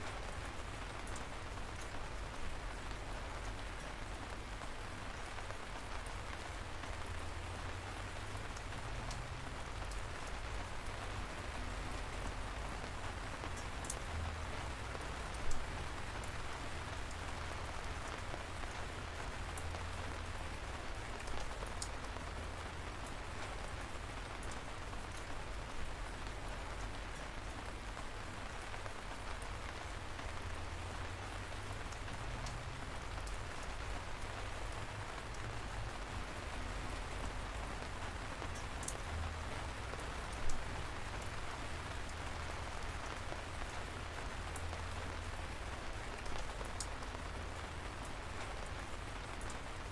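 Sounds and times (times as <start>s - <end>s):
light rain pattering: 0.0s - 49.9s.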